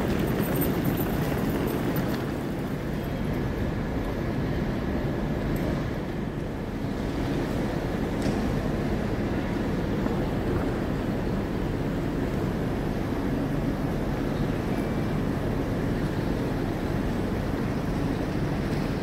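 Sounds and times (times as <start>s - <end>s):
train station hall rumble: 0.0s - 19.0s.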